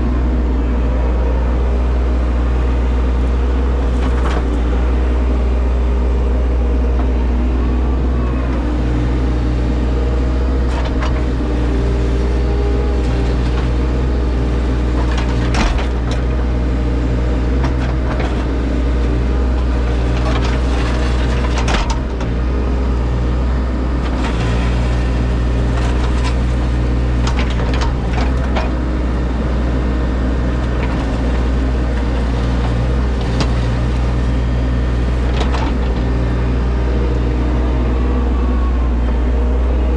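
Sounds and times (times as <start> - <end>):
machine engine droning: 0.0 - 39.9.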